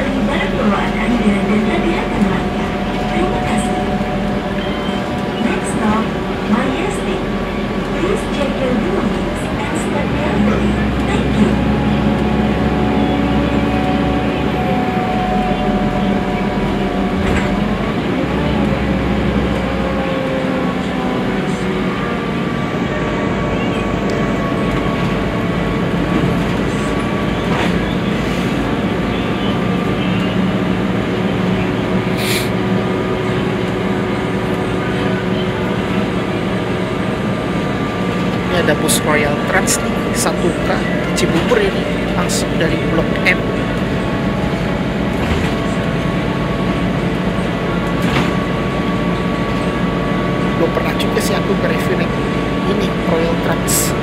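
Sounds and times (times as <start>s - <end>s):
bus engine drone: 0.0s - 54.0s
road and rolling noise: 0.0s - 54.0s.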